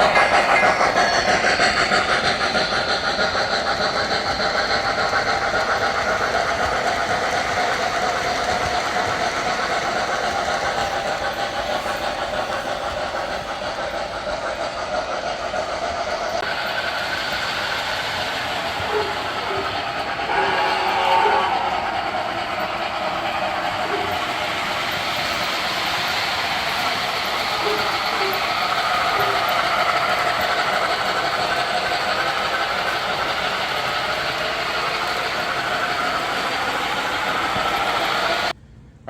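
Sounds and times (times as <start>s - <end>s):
model train wheels clattering: 0.0s - 38.6s.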